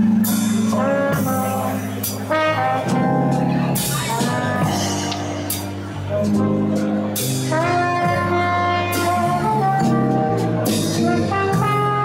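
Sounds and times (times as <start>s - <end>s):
jazz band playing: 0.0s - 12.0s
trombone melody: 0.1s - 12.0s.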